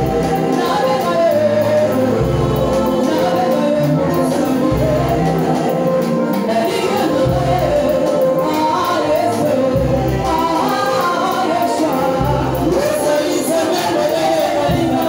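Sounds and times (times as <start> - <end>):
gospel choir singing: 0.0 - 15.0
live band drums and bass: 0.0 - 15.0.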